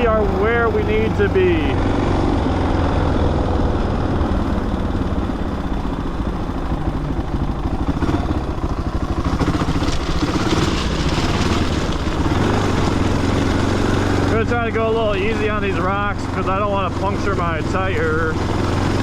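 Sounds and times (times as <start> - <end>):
dirt bike engine at low revs: 0.0 - 19.0.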